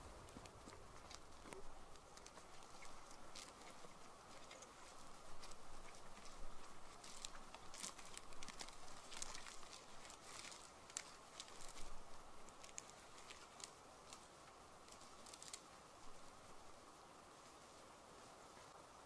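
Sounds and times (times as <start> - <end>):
footsteps crunching through leaves: 0.0 - 16.8.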